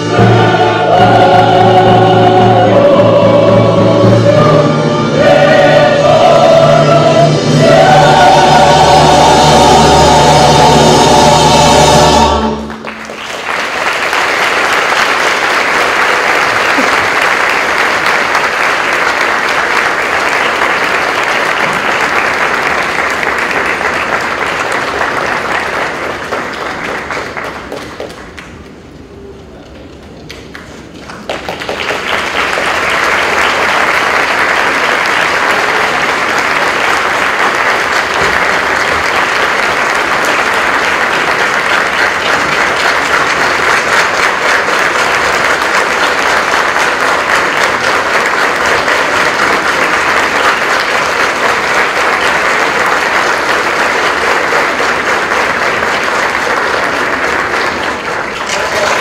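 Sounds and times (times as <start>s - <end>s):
audience applauding: 7.8s - 28.9s, 29.8s - 59.0s.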